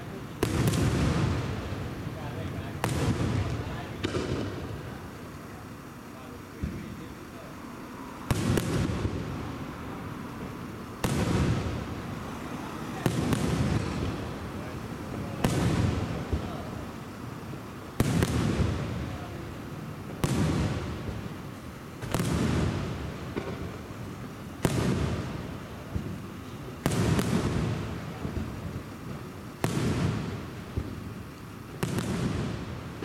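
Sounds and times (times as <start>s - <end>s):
firework shells bursting: 0.3s - 7.6s, 8.2s - 12.3s, 13.0s - 33.0s.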